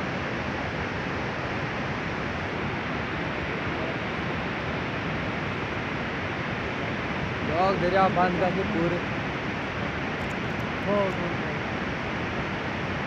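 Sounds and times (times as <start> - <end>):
avalanche rushing roar: 0.0 - 13.0.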